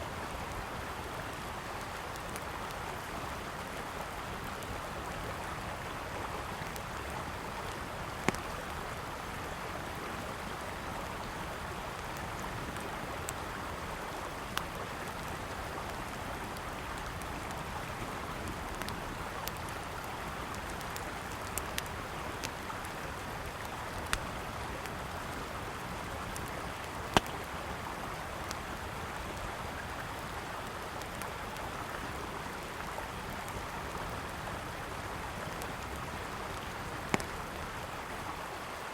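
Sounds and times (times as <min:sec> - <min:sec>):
river flowing: 0:00.0 - 0:38.9
campfire crackling and popping: 0:00.8 - 0:03.1, 0:06.5 - 0:09.0, 0:09.9 - 0:34.1, 0:34.7 - 0:37.9.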